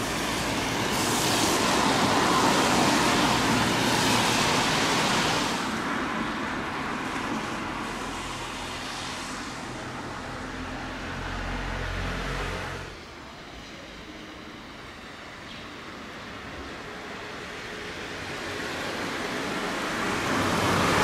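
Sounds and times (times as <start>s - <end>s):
car passing: 0.0s - 13.0s, 17.1s - 21.0s
street background: 0.0s - 21.0s.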